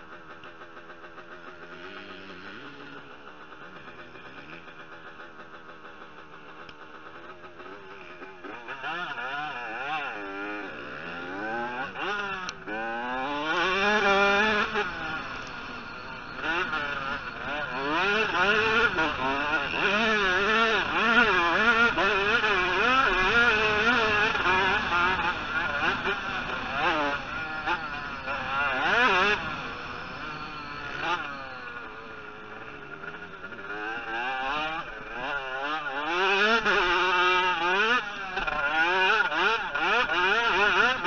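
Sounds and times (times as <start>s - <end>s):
motocross bike engine revving: 0.0s - 41.0s.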